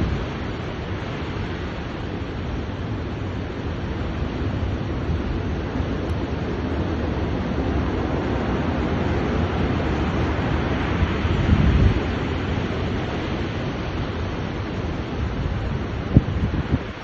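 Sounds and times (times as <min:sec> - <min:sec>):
stormy surf churning: 0:00.0 - 0:17.0
wind buffeting microphone: 0:00.0 - 0:17.0.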